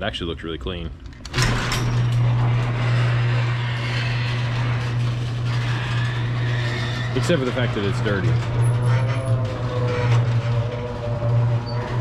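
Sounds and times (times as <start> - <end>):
garage door motor hum: 1.0 - 12.0
garage door rattling on tracks: 1.2 - 12.0.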